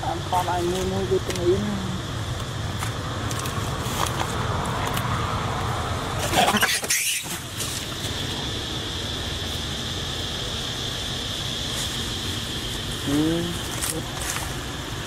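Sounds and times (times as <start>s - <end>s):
constant high-pitched tone: 0.0s - 15.0s
outdoor rumble and hiss: 0.0s - 15.0s.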